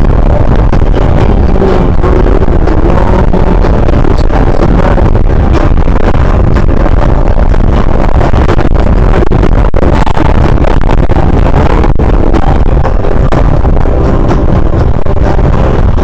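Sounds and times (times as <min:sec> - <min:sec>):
road noise rumble: 0:00.0 - 0:16.0
wind noise on microphone: 0:00.0 - 0:16.0.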